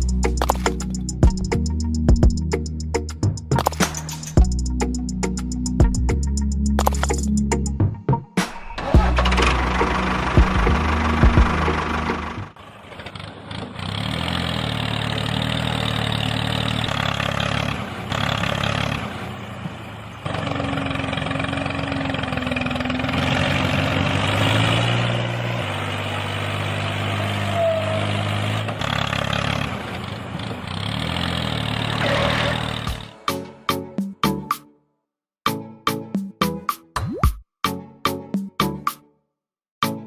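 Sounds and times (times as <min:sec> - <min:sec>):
motor vehicle engine running: 0:00.0 - 0:07.7, 0:08.7 - 0:34.2.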